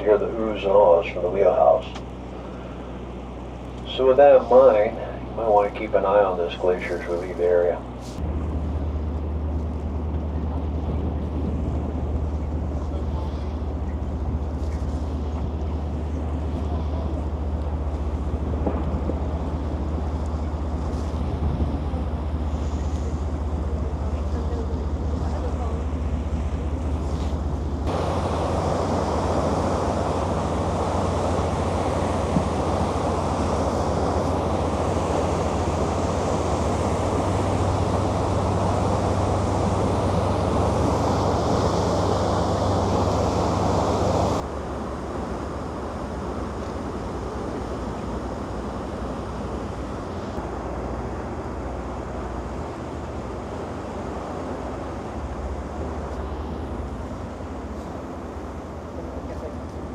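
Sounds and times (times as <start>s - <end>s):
boat engine drone: 0.0s - 59.9s
wind and water rushing: 0.0s - 59.9s.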